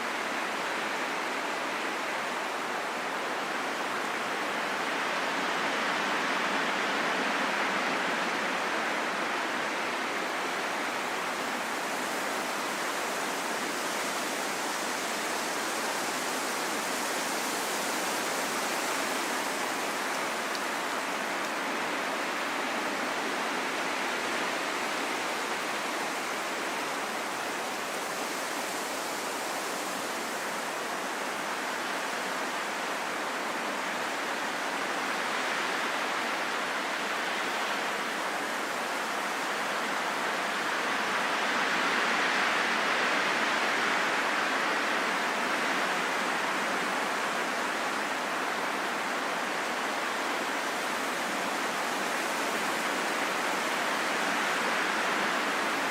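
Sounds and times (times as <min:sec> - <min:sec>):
rain falling in a forest: 0:00.0 - 0:55.9.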